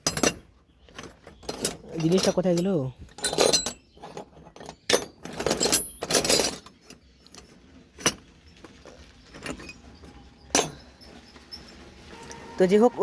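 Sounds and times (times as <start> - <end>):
metal tools clattering: 0.0 - 12.6.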